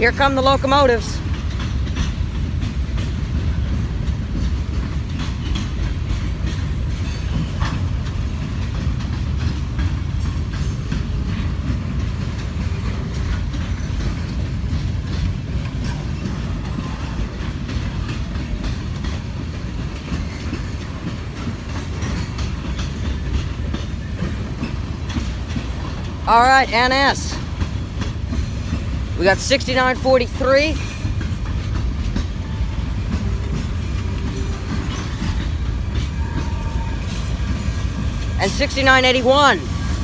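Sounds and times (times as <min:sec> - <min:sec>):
diesel locomotives rumbling: 0:00.0 - 0:40.0
wheels clicking on rails: 0:00.0 - 0:40.0.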